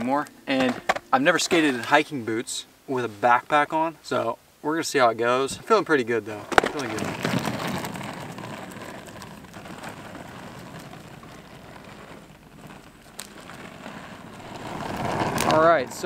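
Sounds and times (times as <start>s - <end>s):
skateboard wheels rolling on asphalt: 0.0s - 16.0s.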